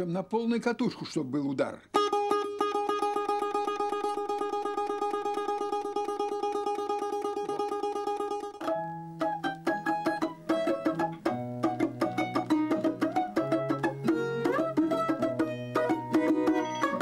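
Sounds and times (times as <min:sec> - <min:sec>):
balalaika played fast: 0:01.9 - 0:17.0.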